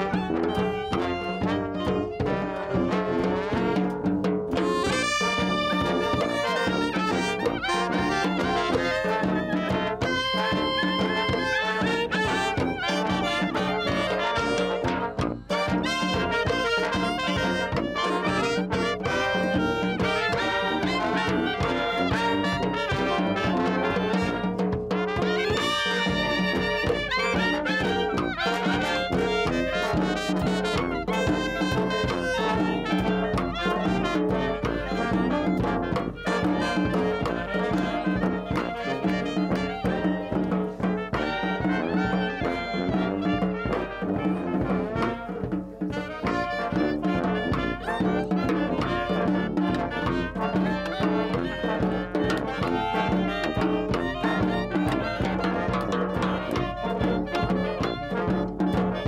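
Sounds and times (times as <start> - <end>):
brass street band playing: 0.0 - 59.0.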